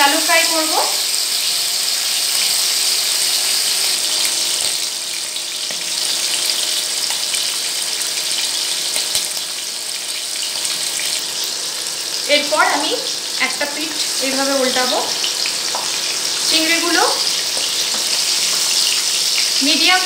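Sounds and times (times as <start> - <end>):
prawns sizzling in oil: 0.0 - 20.0.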